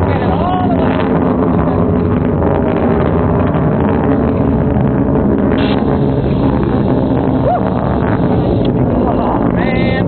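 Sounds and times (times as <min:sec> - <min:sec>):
distant rocket engine rumble: 0:00.0 - 0:10.0.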